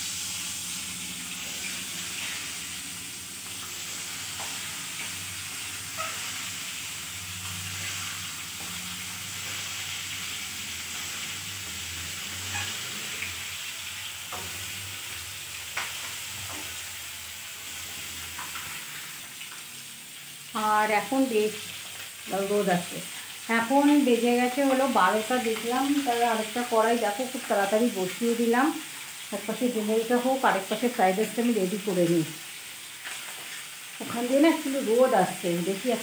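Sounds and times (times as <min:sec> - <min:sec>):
eggs sizzling in hot oil: 0:00.0 - 0:36.0.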